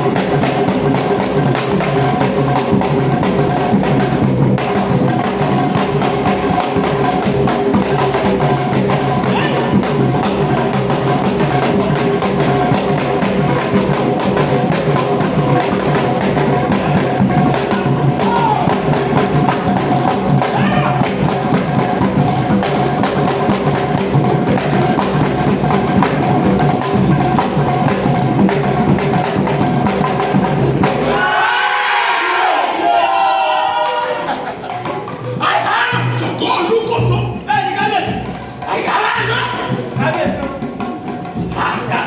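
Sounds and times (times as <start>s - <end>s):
drum ensemble playing: 0.0s - 42.0s.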